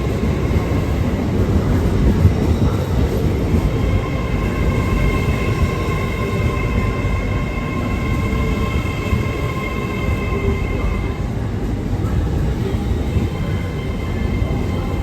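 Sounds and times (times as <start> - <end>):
high-pitched train whine: 0.0 - 15.0
train rumble: 0.0 - 15.0.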